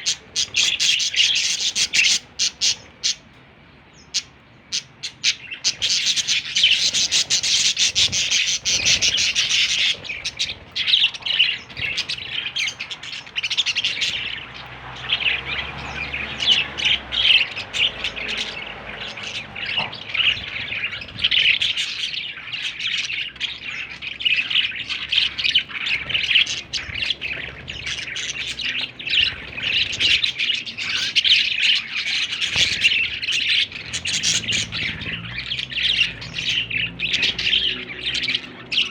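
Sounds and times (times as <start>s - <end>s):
budgerigar chirping and chattering: 0.0s - 3.4s, 4.0s - 38.9s.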